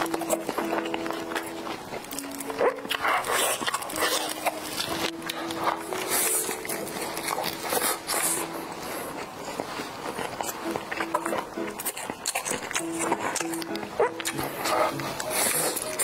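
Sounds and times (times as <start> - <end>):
background music: 0.0 - 16.0
wet chewing and slurping: 0.0 - 16.0.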